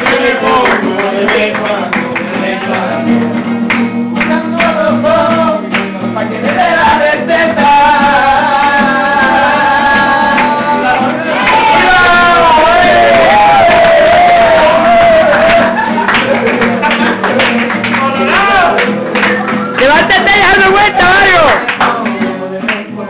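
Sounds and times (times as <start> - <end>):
acoustic guitar strumming: 0.0 - 23.0
man singing: 0.0 - 23.0.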